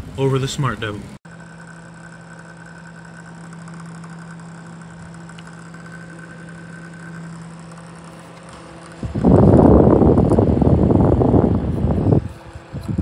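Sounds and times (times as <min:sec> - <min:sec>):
desk fan motor hum: 0:00.0 - 0:13.0
fan blade buzzing rattle: 0:00.0 - 0:13.0.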